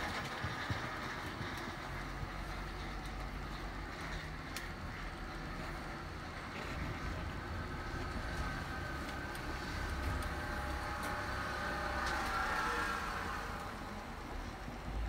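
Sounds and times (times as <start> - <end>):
low background rumble: 0.3 - 15.0.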